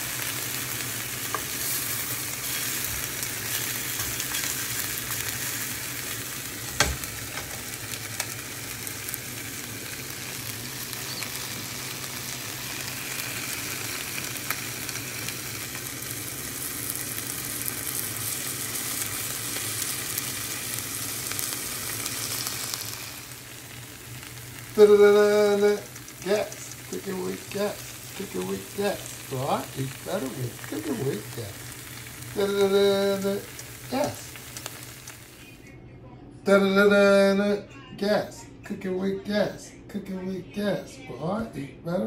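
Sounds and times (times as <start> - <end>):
chicken sizzling in skillet: 0.0 - 35.6.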